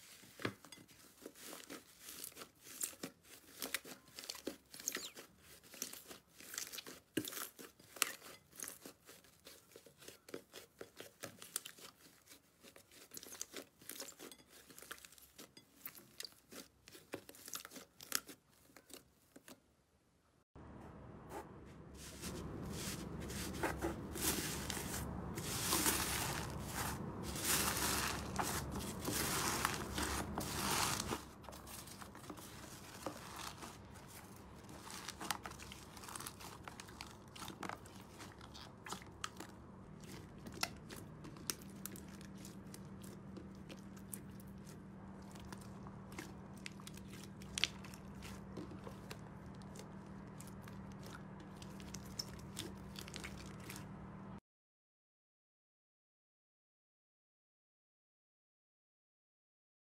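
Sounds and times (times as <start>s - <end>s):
slime squeezed crunching: 1.0s - 19.0s, 22.0s - 54.0s.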